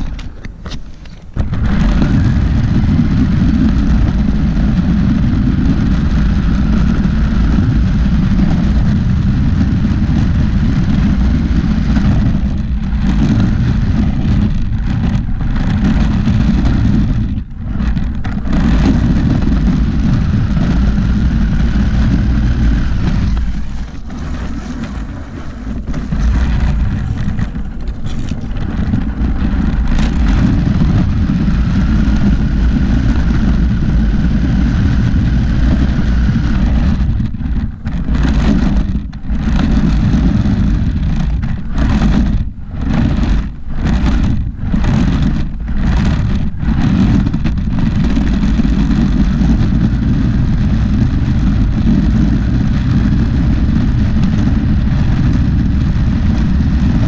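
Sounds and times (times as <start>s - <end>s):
toy truck tyres rumbling on concrete: 0.0s - 57.0s.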